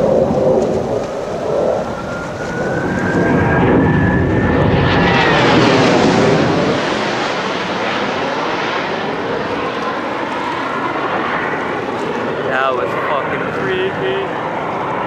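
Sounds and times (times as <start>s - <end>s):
high jet engine whine: 0.0s - 15.0s
jet engines roaring overhead: 0.0s - 15.0s.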